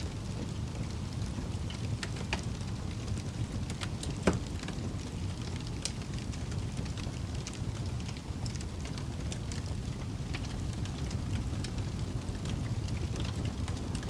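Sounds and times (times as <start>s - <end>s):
fire crackling: 0.0s - 14.0s
fire snaps and pops: 0.0s - 14.0s
steady low rumble: 0.0s - 14.0s.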